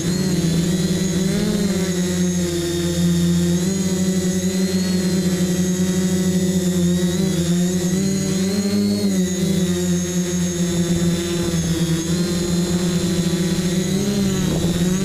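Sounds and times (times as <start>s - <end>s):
drone motors and propellers whining: 0.0s - 15.0s.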